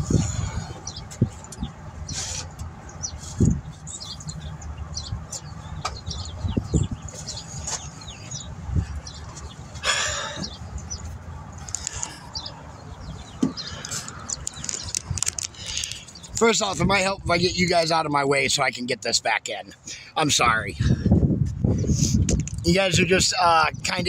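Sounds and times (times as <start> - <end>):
small birds chirping: 0.0 - 20.9, 21.5 - 24.0.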